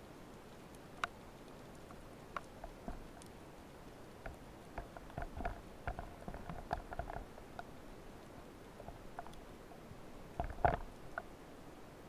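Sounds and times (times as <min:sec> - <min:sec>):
sharp underwater clicks and crackles: 0:00.0 - 0:09.5, 0:10.3 - 0:11.3.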